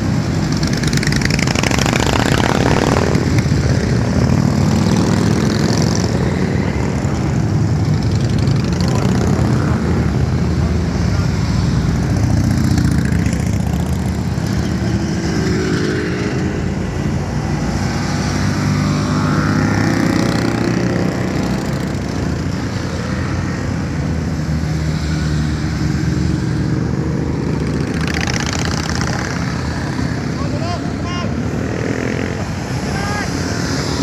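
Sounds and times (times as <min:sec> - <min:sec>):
motorcycles riding past: 0:00.0 - 0:34.0.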